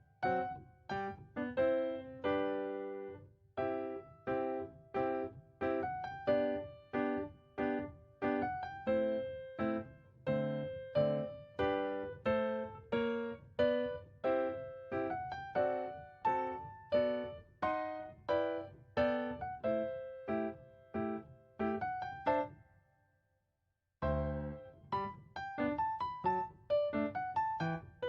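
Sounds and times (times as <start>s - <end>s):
solo piano chords: 0.0s - 22.6s, 24.0s - 28.0s.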